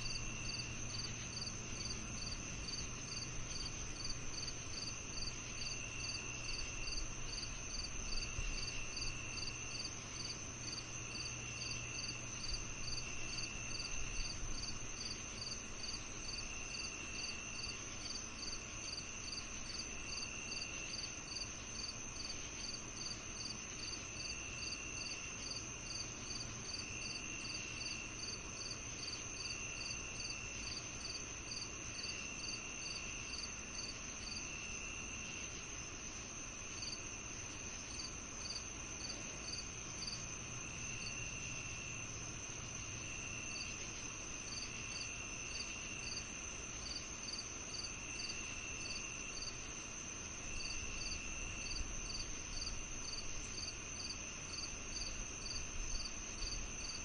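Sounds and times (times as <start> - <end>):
cricket chirping: 0.0 - 57.0
lower cricket trill: 0.0 - 57.0.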